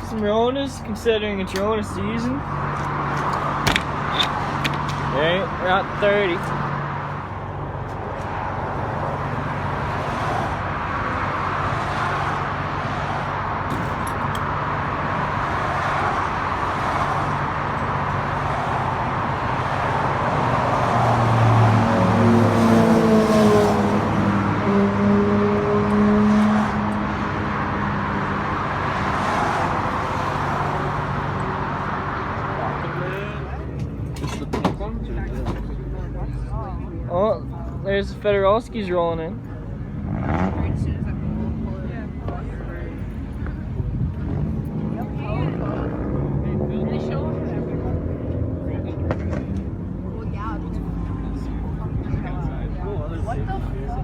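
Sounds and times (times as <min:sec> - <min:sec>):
vehicle engine hum: 0:00.0 - 0:54.0.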